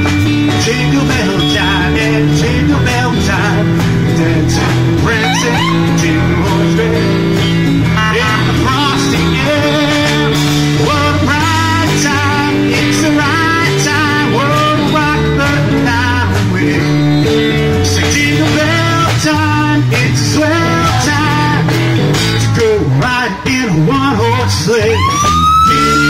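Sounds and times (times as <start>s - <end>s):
live rock and roll band: 0.0s - 26.0s.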